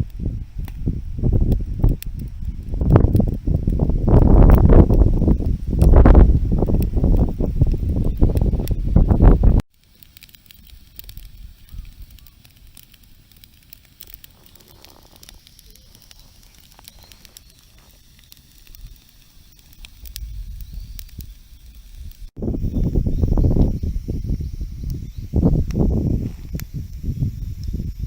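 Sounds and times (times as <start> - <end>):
campfire crackling and popping: 0.0 - 28.0
fire low rumble: 0.0 - 28.0.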